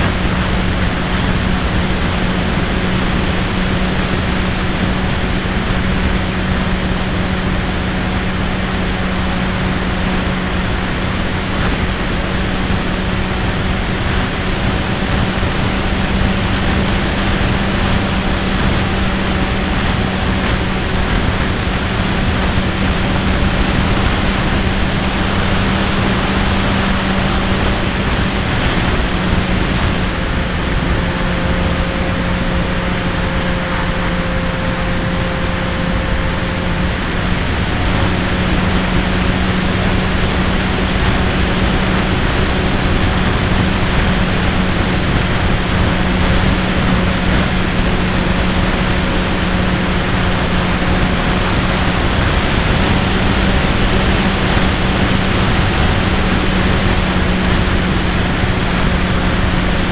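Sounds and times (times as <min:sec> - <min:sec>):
model plane engine running: 0:00.0 - 0:59.9
wind rush on microphone: 0:00.0 - 0:59.9.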